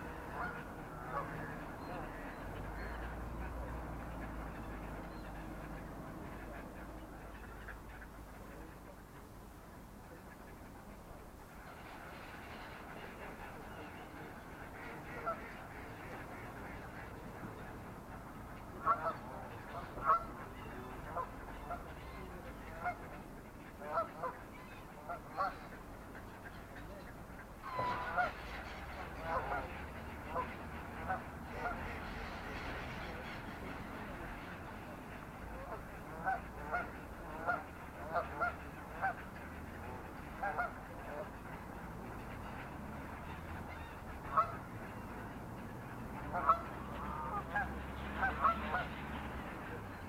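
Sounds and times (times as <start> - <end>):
water birds calling: 0.0 - 50.0.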